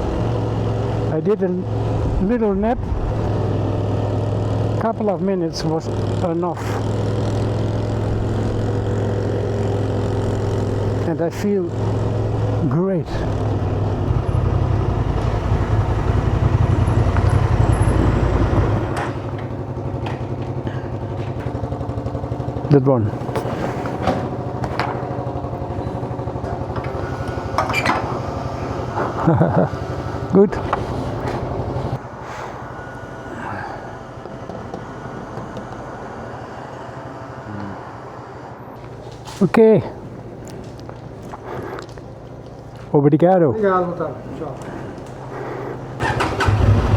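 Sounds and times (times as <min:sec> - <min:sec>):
vehicle engine rumbling: 0:00.0 - 0:46.9.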